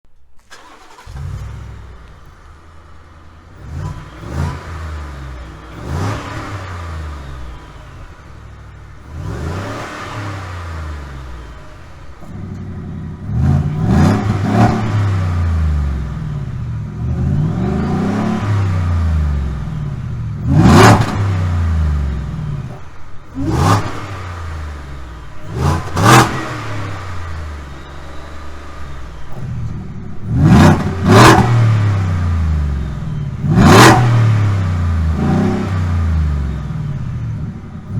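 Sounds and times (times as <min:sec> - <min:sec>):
short sharp exhaust blips: 0:00.4 - 0:37.9
truck exhaust revving: 0:00.5 - 0:37.9.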